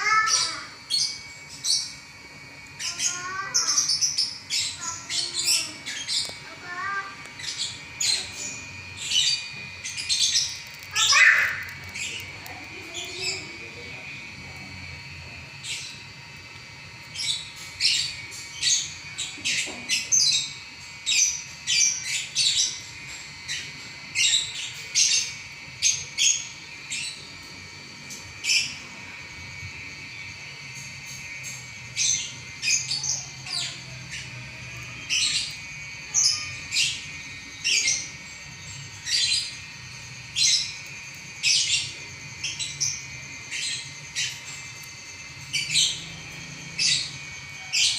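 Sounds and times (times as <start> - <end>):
lovebird chattering song: 0.0 - 2.0, 2.6 - 16.1, 16.9 - 27.4, 28.0 - 47.9.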